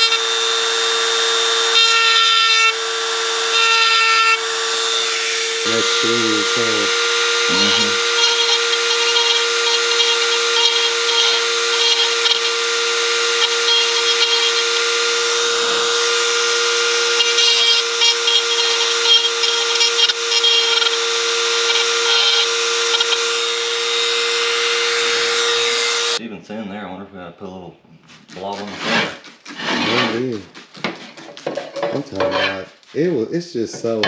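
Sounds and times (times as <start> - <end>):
power grinder grinding metal: 0.0 - 26.2, 28.6 - 32.8.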